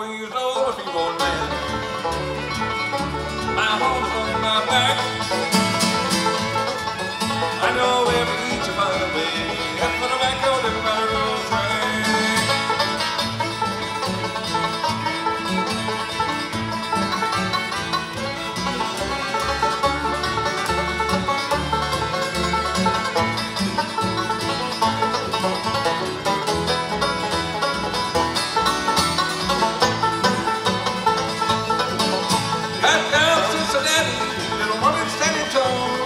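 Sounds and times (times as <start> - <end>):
acoustic guitar: 0.0 - 36.0
banjo: 0.0 - 36.0
fiddle: 0.0 - 36.0
upright bass: 0.7 - 36.0.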